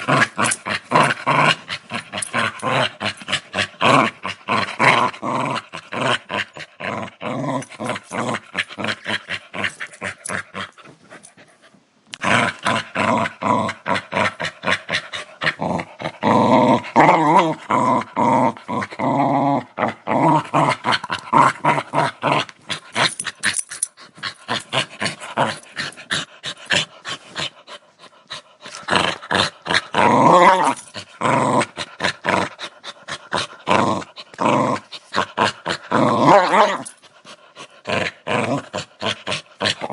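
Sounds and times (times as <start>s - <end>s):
dog growling: 0.0s - 11.4s, 12.2s - 39.9s.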